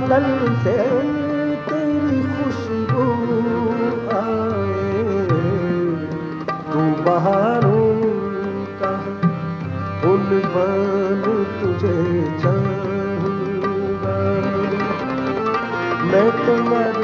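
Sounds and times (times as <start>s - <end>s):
sliding melody line: 0.0s - 17.0s
tabla beat: 0.0s - 17.0s.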